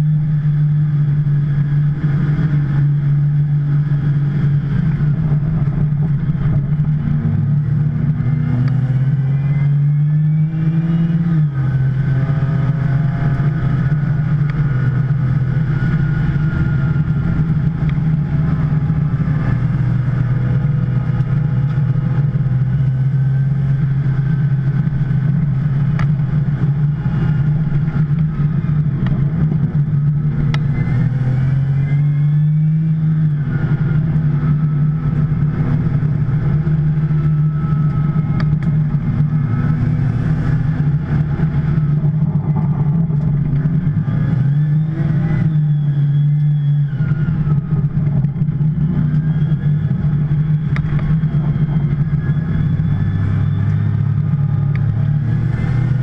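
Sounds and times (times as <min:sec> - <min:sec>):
road and wind noise: 0:00.0 - 0:56.0
car engine revving hard: 0:06.6 - 0:56.0.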